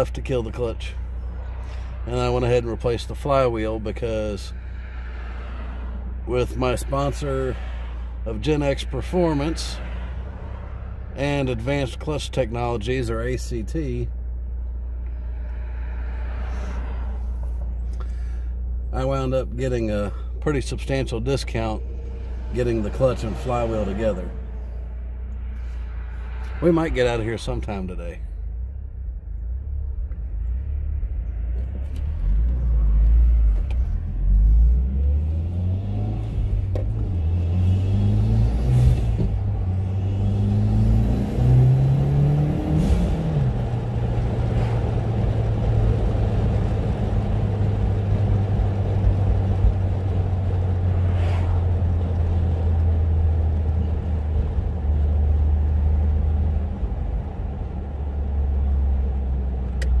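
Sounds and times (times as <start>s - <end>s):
car engine accelerating: 0.0s - 60.0s.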